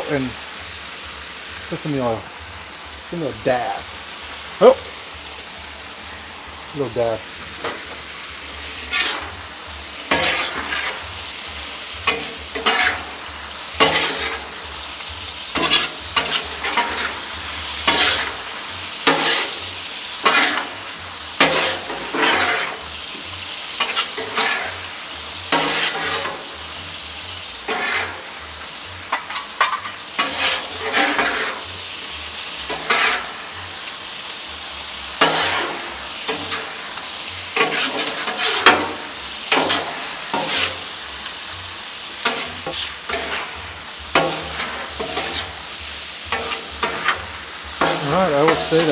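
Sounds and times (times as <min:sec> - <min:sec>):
food sizzling on a griddle: 0:00.0 - 0:48.9
spatula scraping steel griddle: 0:06.4 - 0:26.8, 0:27.6 - 0:31.8, 0:32.4 - 0:33.9, 0:35.2 - 0:48.9.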